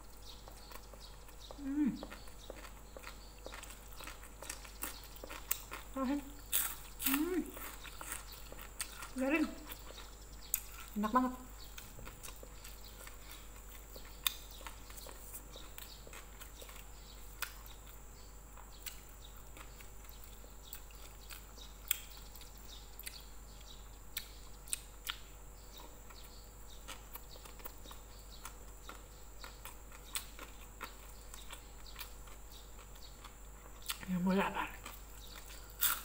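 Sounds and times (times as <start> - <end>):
chewing rice and crispy fish: 0.0 - 36.0.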